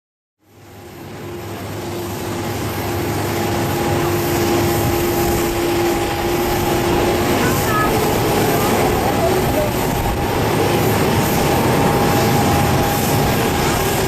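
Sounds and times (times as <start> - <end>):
jet engines droning: 0.4 - 14.0.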